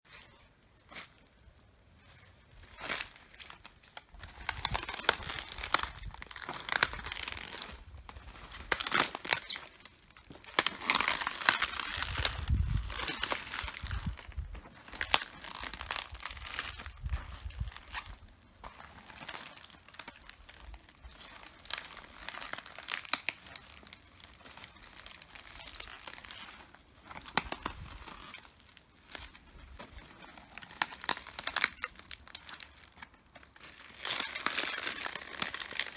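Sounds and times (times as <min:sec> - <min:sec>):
cabbage leaves crunching underfoot: 0:00.1 - 0:35.9.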